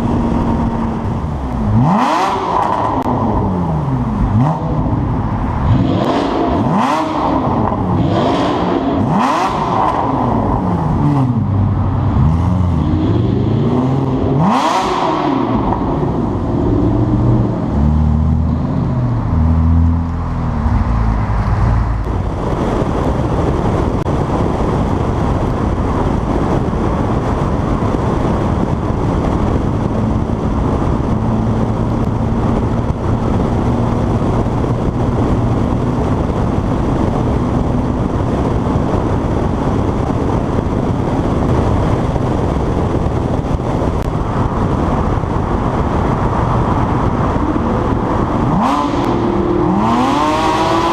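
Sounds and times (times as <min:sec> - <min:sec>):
car engine drone: 0:00.0 - 0:50.9
road and wind noise: 0:00.0 - 0:50.9.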